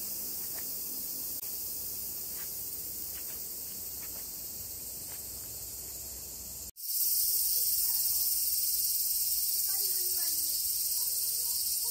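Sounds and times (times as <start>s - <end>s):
insect chorus drone: 0.0s - 11.9s.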